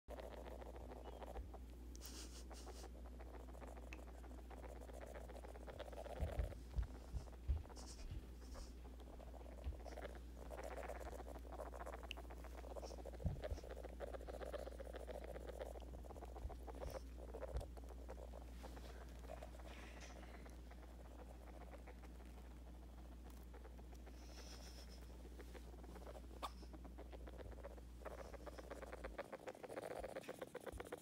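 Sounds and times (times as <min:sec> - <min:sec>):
rat clicking chatter: 0:00.1 - 0:01.8, 0:02.5 - 0:08.0, 0:08.6 - 0:31.0.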